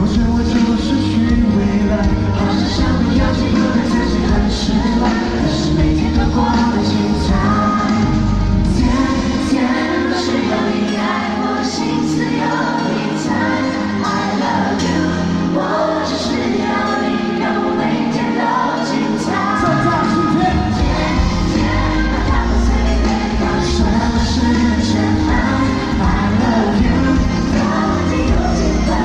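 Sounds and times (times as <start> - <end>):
live band playing: 0.0 - 29.0.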